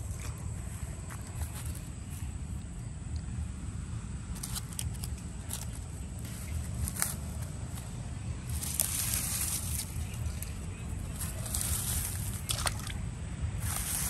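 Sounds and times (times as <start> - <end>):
dry grass crackling and rustling: 0.0 - 2.3, 4.3 - 13.0, 13.6 - 14.0
low steady rumble: 0.0 - 14.0.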